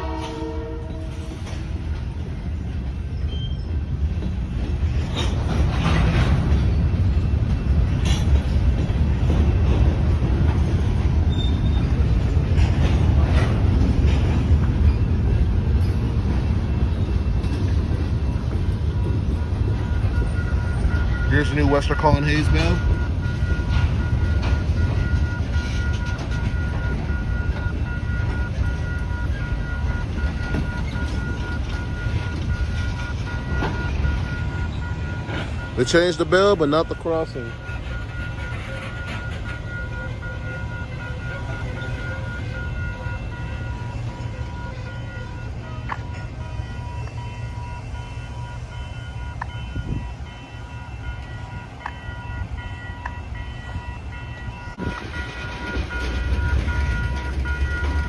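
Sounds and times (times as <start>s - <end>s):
crossing bell ringing: 0.0s - 58.0s
freight cars rumbling past: 0.0s - 58.0s.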